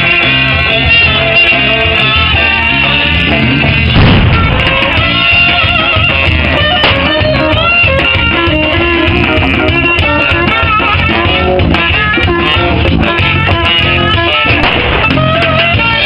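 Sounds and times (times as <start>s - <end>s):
drum kit beat: 0.0s - 16.0s
live band playing loudly: 0.0s - 16.0s
saxophones: 0.0s - 16.0s.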